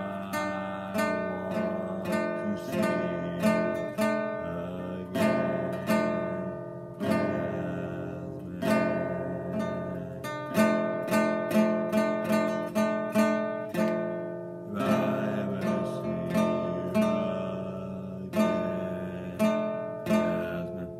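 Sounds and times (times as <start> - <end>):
man singing: 0.0 - 14.0, 14.6 - 20.9
acoustic guitar strumming: 0.0 - 20.9.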